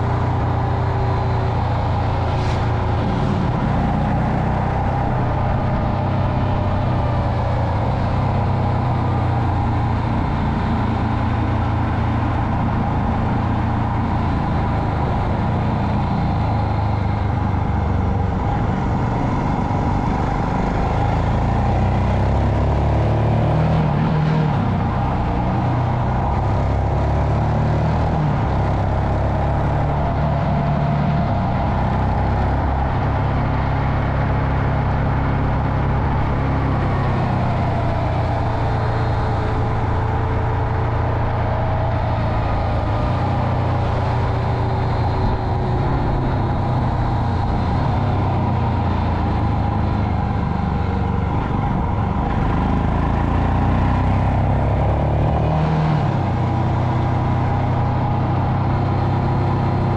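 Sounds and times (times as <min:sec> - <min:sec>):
motorcycle engine at low revs: 0:00.0 - 0:59.9.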